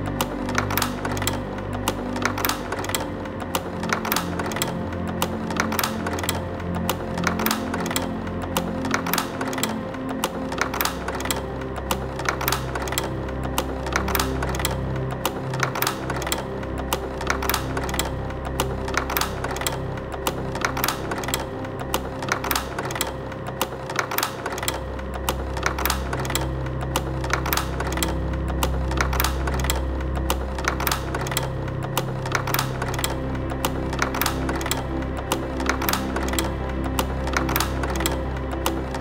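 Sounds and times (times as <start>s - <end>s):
slide-change mechanism clicking: 0.0s - 39.0s.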